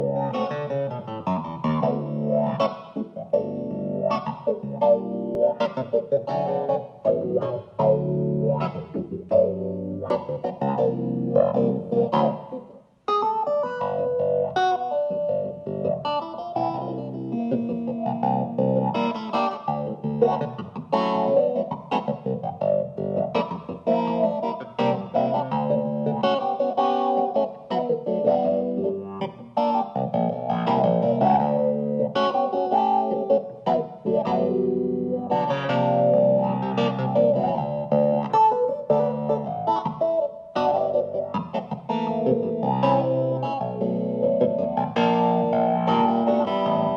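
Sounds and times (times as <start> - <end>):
electric keyboard chords: 0.0 - 46.9.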